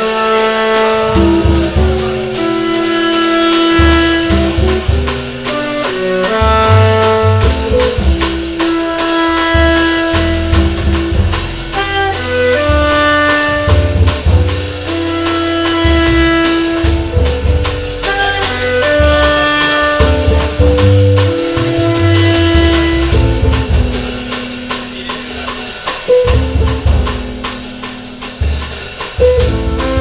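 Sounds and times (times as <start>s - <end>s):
clarinet: 0.0s - 27.2s, 29.2s - 30.0s
alto saxophone: 0.0s - 27.7s, 29.1s - 30.0s
drum kit beat: 0.0s - 30.0s
upright bass: 0.0s - 30.0s.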